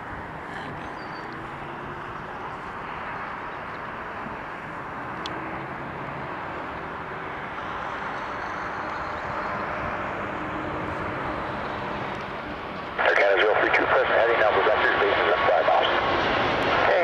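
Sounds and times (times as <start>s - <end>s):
jet airliner on approach: 0.0s - 17.0s.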